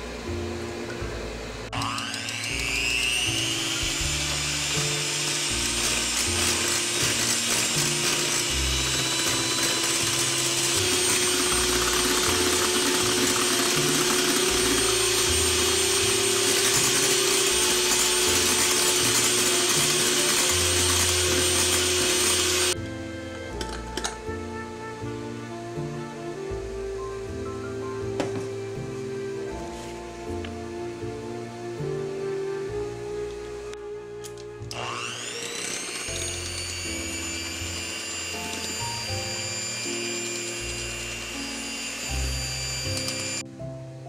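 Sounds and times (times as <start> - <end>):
electric hand mixer whining: 0.0 - 27.0, 27.7 - 43.5.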